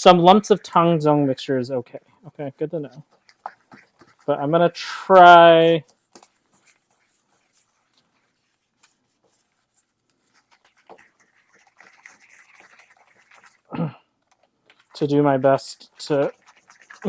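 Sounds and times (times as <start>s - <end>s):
utensil mixing dough in a bowl: 0.0s - 17.0s.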